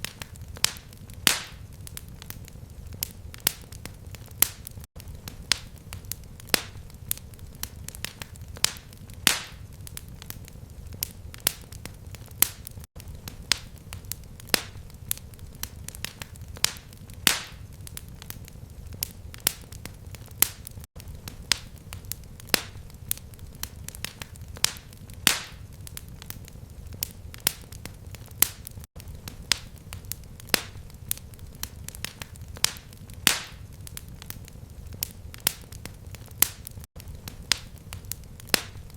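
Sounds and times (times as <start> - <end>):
fire crackling and popping: 0.0 - 38.9
low rumble of flame: 0.0 - 38.9.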